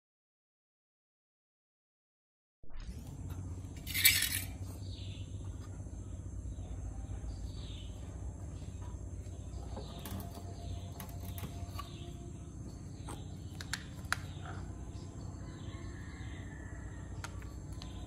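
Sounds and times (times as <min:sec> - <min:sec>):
birds chirping: 0:03.3 - 0:18.0.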